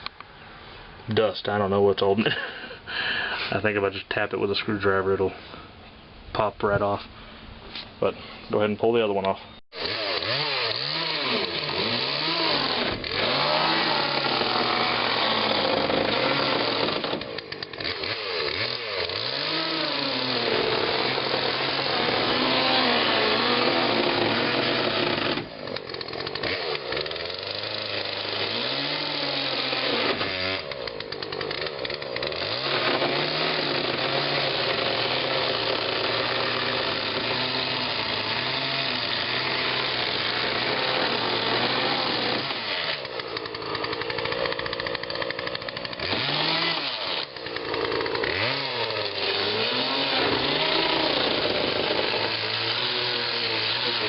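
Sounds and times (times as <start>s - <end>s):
power saw cutting fiberglass: 9.7s - 54.0s.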